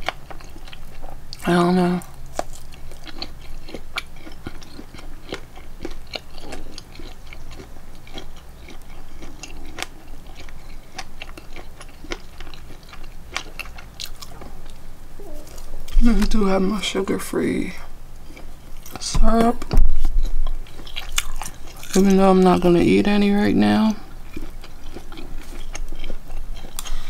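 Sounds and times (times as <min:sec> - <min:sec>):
person chewing food: 0:00.0 - 0:16.4, 0:17.8 - 0:19.0, 0:19.7 - 0:22.2, 0:23.9 - 0:27.0.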